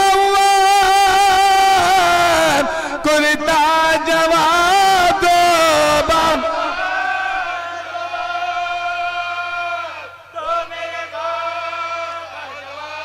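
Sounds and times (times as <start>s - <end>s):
male voices singing a lament: 0.0s - 13.0s.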